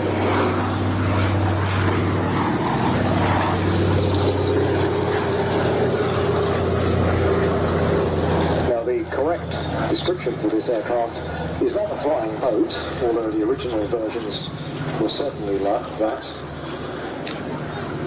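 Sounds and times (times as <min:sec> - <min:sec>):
propeller plane drone overhead: 0:00.0 - 0:18.0.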